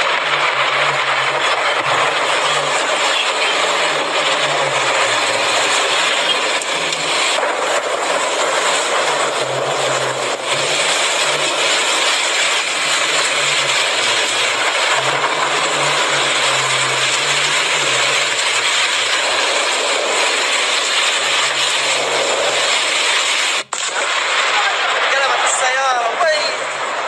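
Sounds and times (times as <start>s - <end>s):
low hum: 0.0s - 22.7s
heavy rain pouring: 0.0s - 27.0s.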